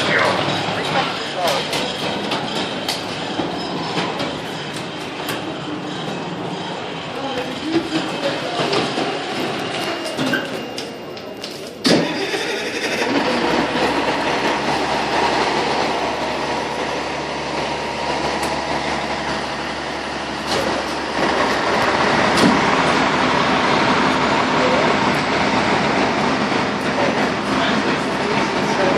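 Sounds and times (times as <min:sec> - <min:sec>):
diesel engine starting and running: 0:00.0 - 0:28.9.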